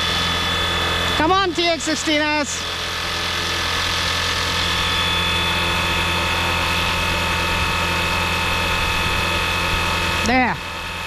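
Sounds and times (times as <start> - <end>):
higher motor whine: 0.0 - 11.0
rc helicopter hovering: 0.0 - 11.0.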